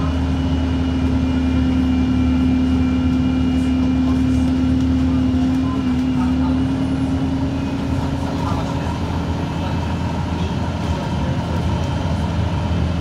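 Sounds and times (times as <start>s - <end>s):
diesel bus engine rumble and whine: 0.0s - 13.0s.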